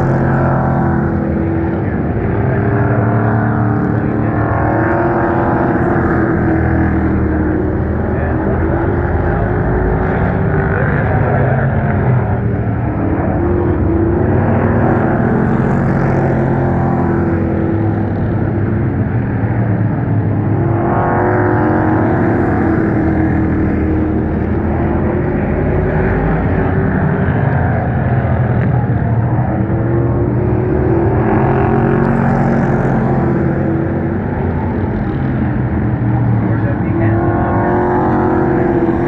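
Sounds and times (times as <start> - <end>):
racing engines passing: 0.0 - 39.0.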